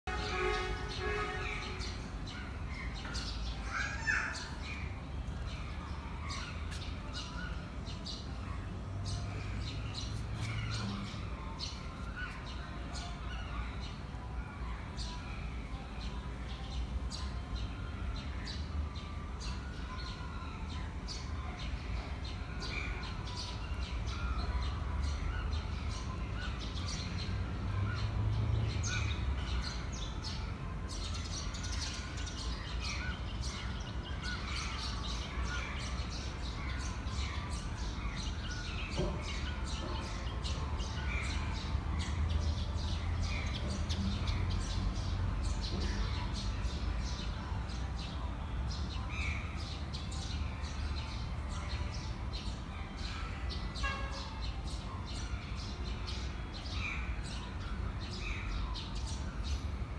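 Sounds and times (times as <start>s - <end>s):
small birds chirping: 0.1s - 59.9s.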